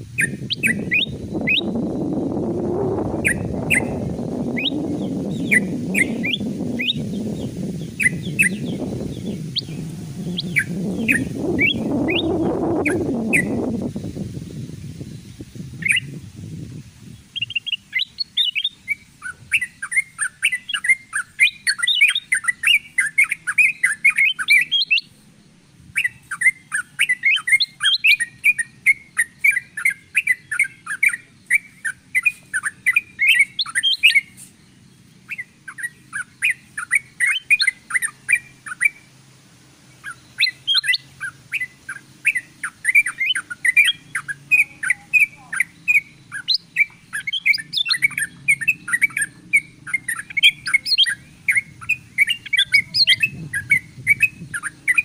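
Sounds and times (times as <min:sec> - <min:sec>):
bird chattering calls: 0:00.0 - 0:16.2, 0:17.0 - 0:39.2, 0:39.8 - 0:55.0.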